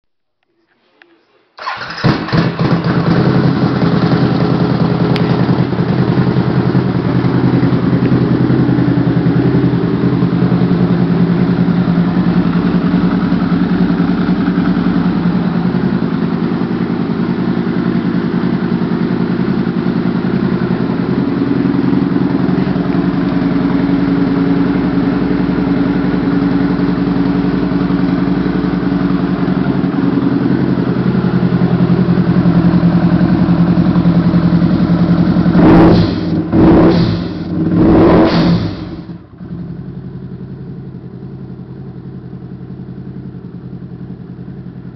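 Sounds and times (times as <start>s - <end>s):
motorcycle engine idling: 1.6s - 44.9s.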